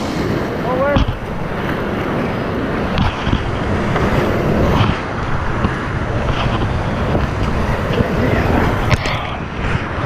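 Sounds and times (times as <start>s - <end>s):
whitewater rapids roaring: 0.0s - 10.0s
wind buffeting microphone: 0.0s - 10.0s.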